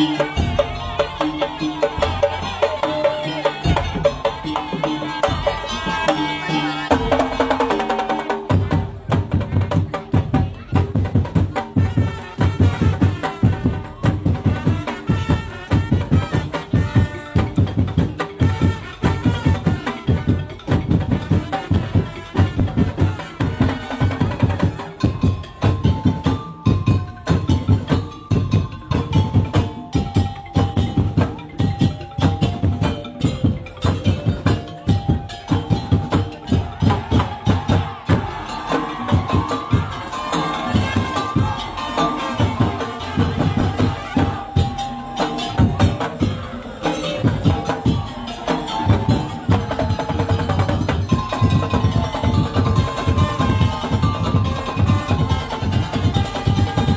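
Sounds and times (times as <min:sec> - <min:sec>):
fast drumming: 0:00.0 - 0:56.9.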